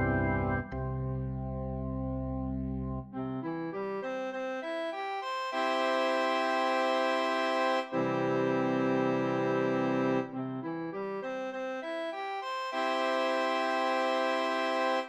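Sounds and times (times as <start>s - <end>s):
organ keyboard notes and chords: 0.0s - 15.0s.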